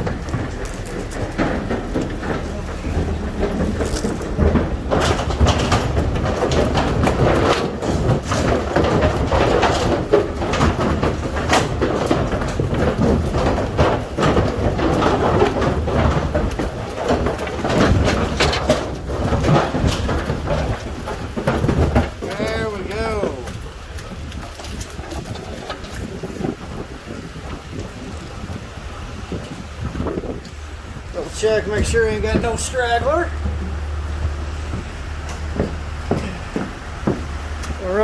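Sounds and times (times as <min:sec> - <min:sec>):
cattle hooves on metal floor: 0:00.0 - 0:38.0.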